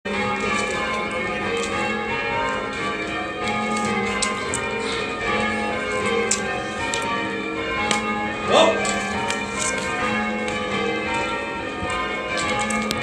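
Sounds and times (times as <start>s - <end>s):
church bells change-ringing: 0.1s - 13.0s.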